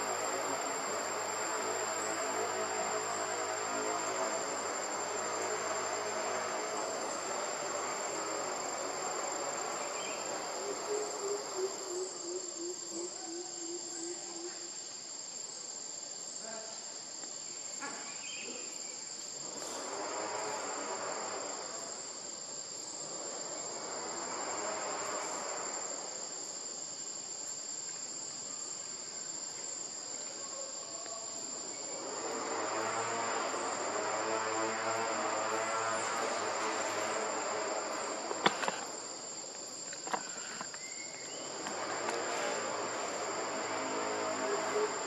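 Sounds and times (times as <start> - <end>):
forest insects buzzing trill: 0.0 - 45.0.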